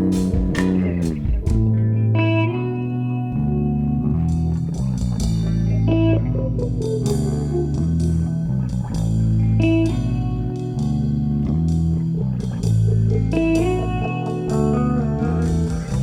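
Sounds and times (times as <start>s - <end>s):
drums: 0.0s - 2.1s, 4.1s - 5.9s, 6.6s - 16.0s
bass guitar: 0.0s - 16.0s
electric guitar: 0.0s - 16.0s.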